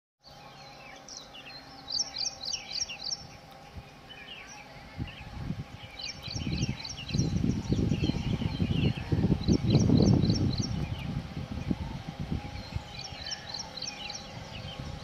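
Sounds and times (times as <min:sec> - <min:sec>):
faint steady hum: 0:00.2 - 0:15.0
small birds chirping: 0:00.2 - 0:15.0.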